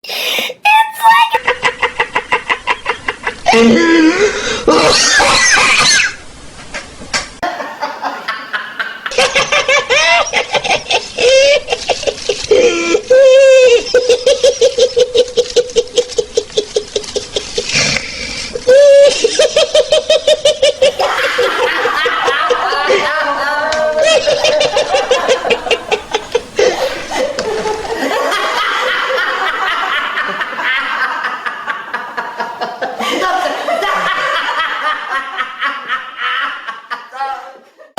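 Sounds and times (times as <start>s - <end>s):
repeated ha-ha laughter: 0.7s - 4.1s, 7.4s - 18.0s, 18.6s - 23.4s, 24.0s - 37.2s
people laughing: 1.1s - 4.1s, 7.4s - 17.9s, 18.6s - 37.4s.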